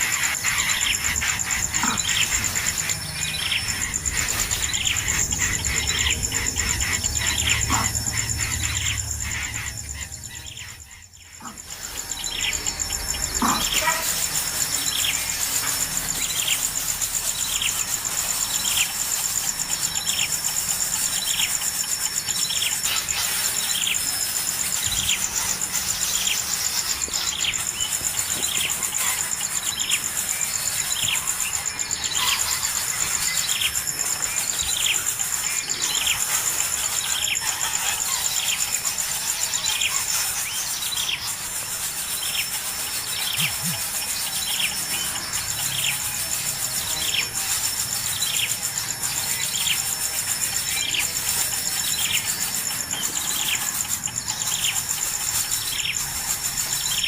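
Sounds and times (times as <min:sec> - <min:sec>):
high drone of insects: 0:00.0 - 0:57.0.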